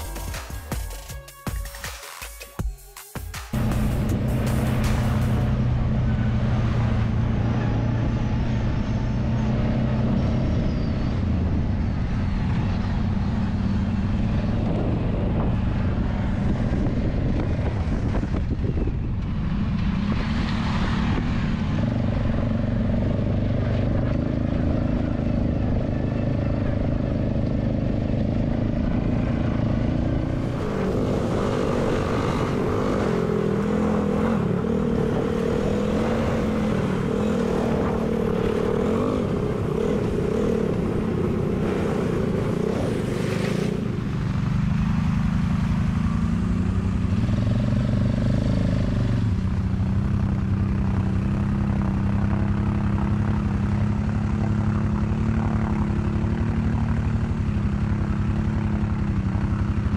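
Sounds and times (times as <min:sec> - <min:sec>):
atv engine running: 0:03.5 - 0:59.9.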